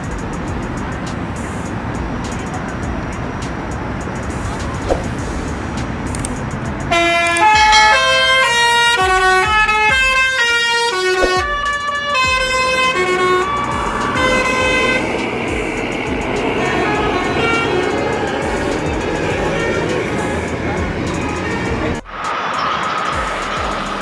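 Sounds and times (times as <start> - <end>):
bus horn playing a tune: 0.0 - 22.5
engine and road rumble: 0.0 - 24.0.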